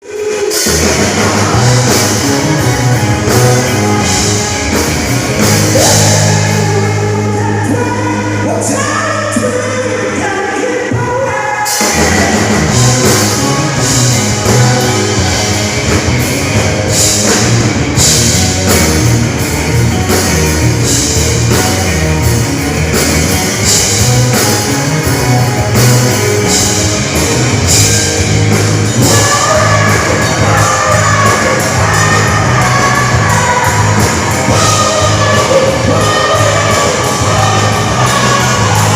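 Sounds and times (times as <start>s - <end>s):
rock music with singing: 0.0s - 38.9s.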